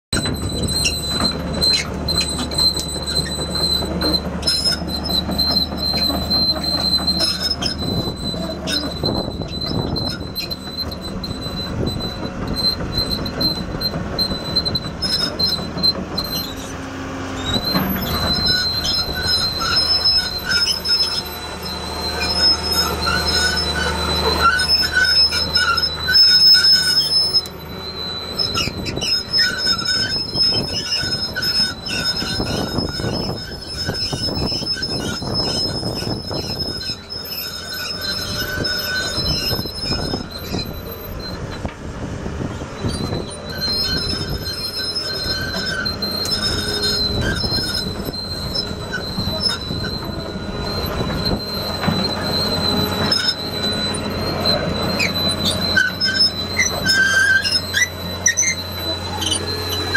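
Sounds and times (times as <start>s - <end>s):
diesel excavator engine running: 0.1s - 59.9s
steel tracks squealing and clanking: 0.1s - 59.9s.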